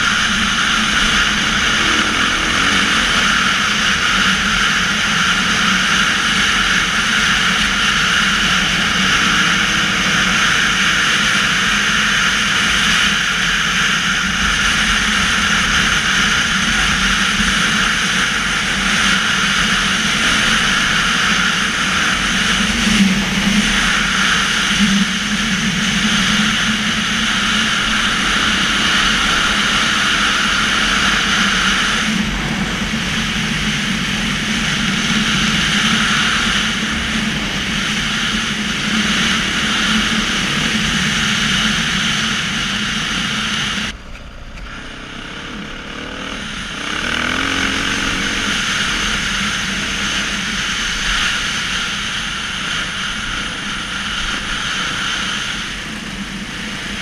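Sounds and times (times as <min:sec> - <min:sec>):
dirt bike engine running: 0:00.0 - 0:57.0
wind and road rush: 0:00.0 - 0:57.0.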